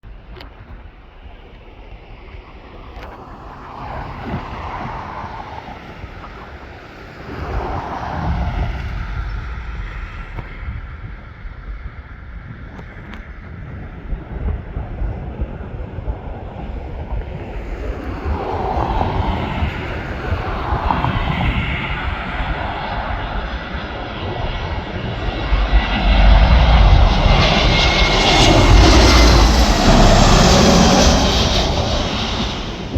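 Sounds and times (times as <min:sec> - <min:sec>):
wind buffeting microphone: 0:00.0 - 0:32.9
jet engines roaring: 0:00.1 - 0:32.9.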